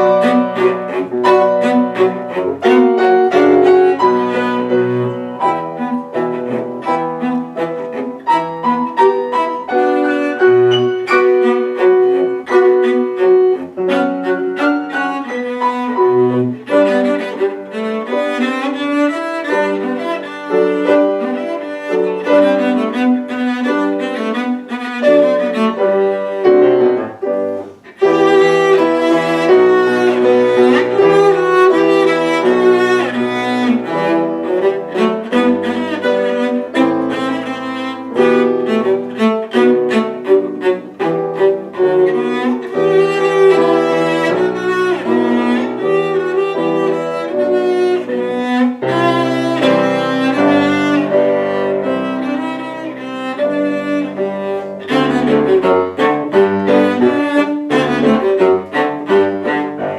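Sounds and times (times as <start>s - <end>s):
cello melody: 0.0s - 59.9s
piano accompaniment: 0.0s - 59.9s.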